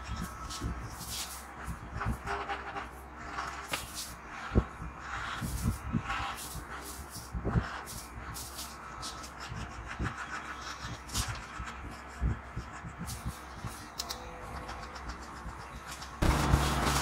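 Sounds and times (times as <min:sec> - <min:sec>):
comb strokes: 0:00.0 - 0:17.0
low steady hum: 0:00.0 - 0:17.0.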